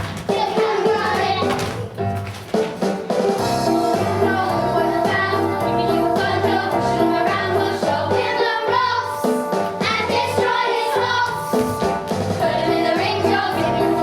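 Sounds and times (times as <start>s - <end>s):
children singing: 0.0s - 1.6s, 3.4s - 14.0s
instrumental accompaniment with beat: 0.0s - 14.0s.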